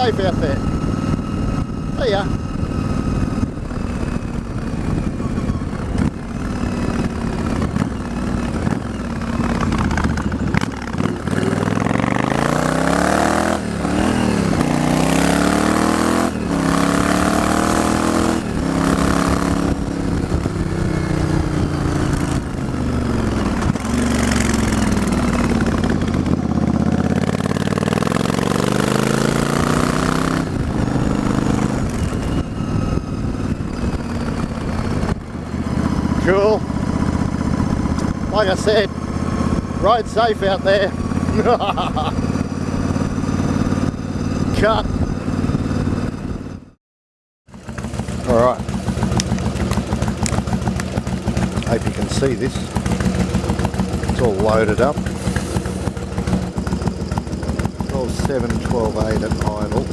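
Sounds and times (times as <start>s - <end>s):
motorcycle engine revving: 0.0s - 46.8s, 47.4s - 59.9s.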